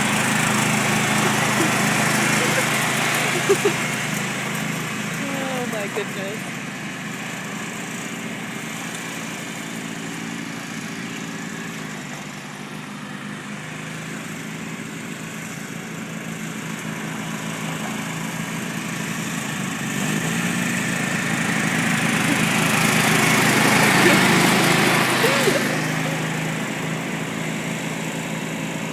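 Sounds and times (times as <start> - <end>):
lawn mower engine running: 0.0 - 28.9.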